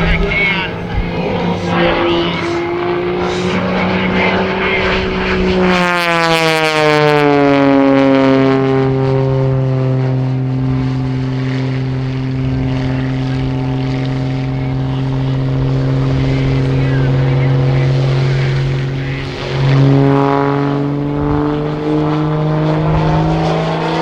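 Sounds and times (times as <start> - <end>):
airplane engine and propeller: 0.0 - 24.0.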